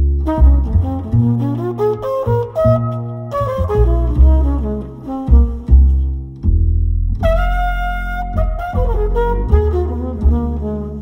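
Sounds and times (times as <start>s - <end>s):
double bass notes: 0.0s - 11.0s
horn melody: 0.2s - 6.1s, 7.2s - 11.0s.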